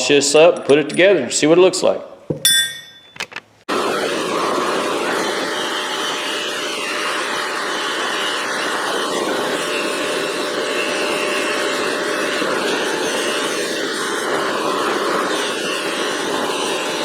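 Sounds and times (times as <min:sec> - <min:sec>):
buffing wheel whirring: 0:03.0 - 0:17.0.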